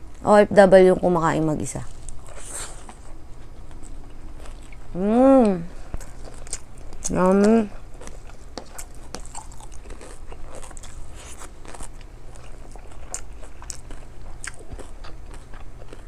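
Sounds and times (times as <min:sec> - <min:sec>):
person chewing food: 0:01.9 - 0:16.0.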